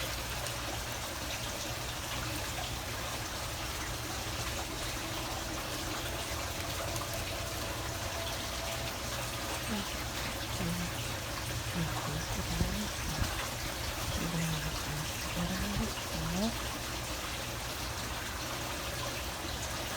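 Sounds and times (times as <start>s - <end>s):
water running and trickling: 0.0s - 19.9s.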